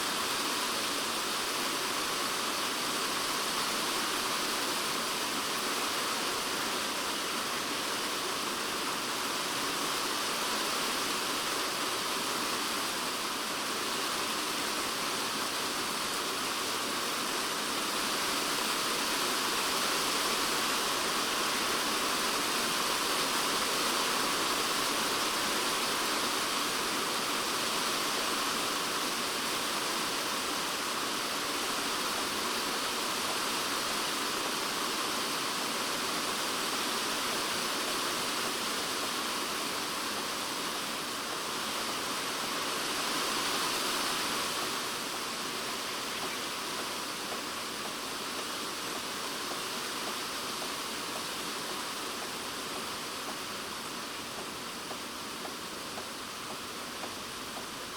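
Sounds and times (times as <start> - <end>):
rain on a plastic roof: 0.0 - 57.9.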